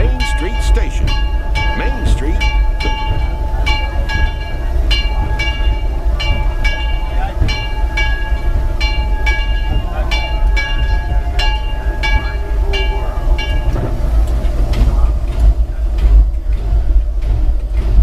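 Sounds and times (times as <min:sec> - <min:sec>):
steam locomotive bell ringing: 0:00.0 - 0:17.4
constant low rumble: 0:00.0 - 0:18.0.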